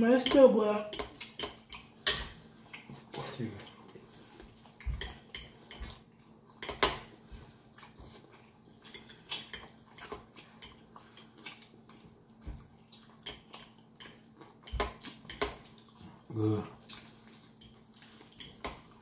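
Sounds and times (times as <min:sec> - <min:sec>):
chewing and mouth sounds: 0:00.9 - 0:19.0.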